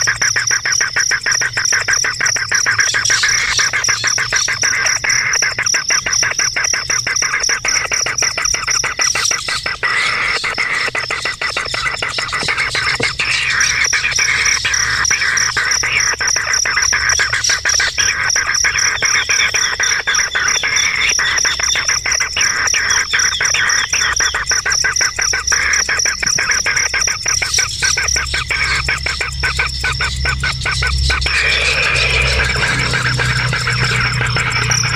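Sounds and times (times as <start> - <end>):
birds chirping: 0.0 - 34.9
steady high-pitched whine: 0.0 - 34.9.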